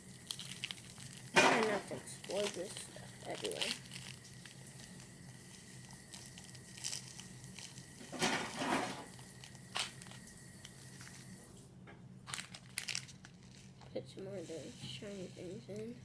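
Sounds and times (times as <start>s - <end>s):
rustling and crunching: 0.0s - 11.4s, 12.2s - 14.0s
faint steady hum: 0.0s - 16.0s.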